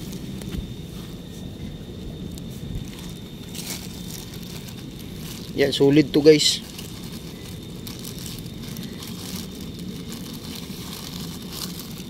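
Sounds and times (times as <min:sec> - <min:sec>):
low background rumble: 0:00.0 - 0:12.0
plastic bag crinkling: 0:02.3 - 0:12.0.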